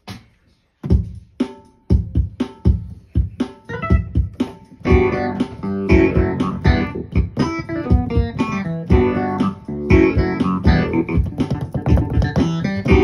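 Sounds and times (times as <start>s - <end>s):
funk keyboard groove: 1.2s - 13.0s.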